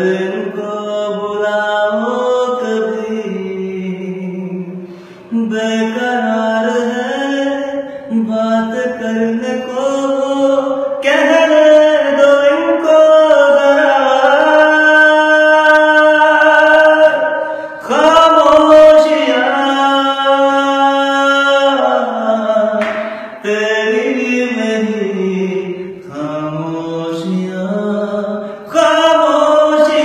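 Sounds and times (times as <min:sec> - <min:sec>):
man singing unaccompanied: 0:00.0 - 0:30.0.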